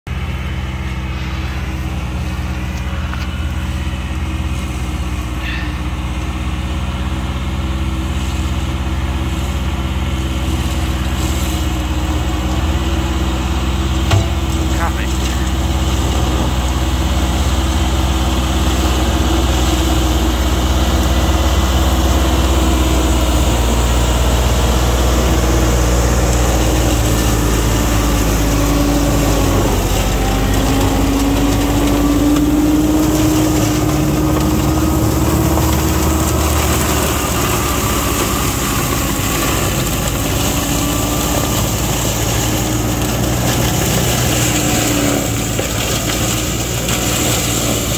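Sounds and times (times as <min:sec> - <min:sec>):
tractor diesel engine under load: 0:00.0 - 0:47.9
mulcher shredding bushes: 0:00.1 - 0:47.9.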